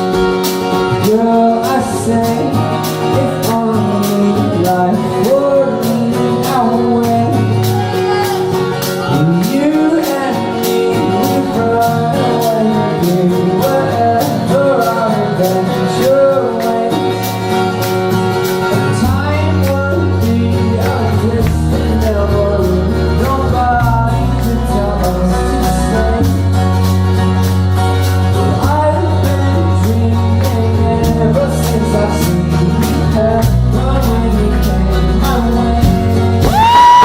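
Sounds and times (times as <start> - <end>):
strummed acoustic guitar: 0.0 - 37.0
man singing: 0.8 - 17.9, 18.5 - 26.7, 28.3 - 37.0.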